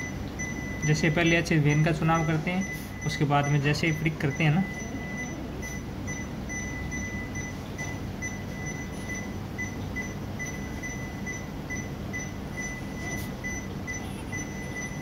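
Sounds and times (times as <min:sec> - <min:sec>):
low room hum: 0:00.0 - 0:15.0
patient monitor beeping: 0:00.0 - 0:15.0.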